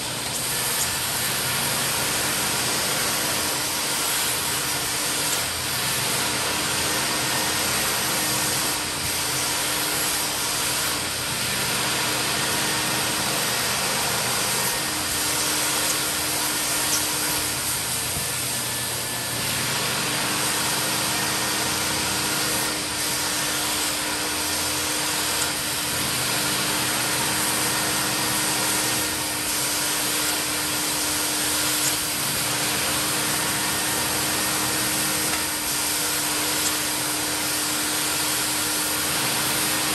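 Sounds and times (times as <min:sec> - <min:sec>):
carpet extractor vacuum motor: 0:00.0 - 0:39.9.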